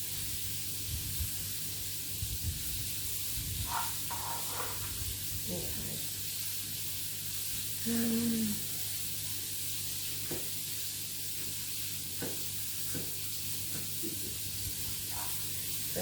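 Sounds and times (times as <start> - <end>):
onions sizzling in a frying pan: 0.0 - 16.0.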